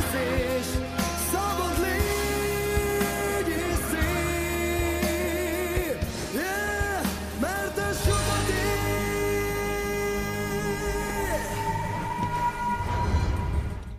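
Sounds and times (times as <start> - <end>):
slow ballad music: 0.0 - 13.9.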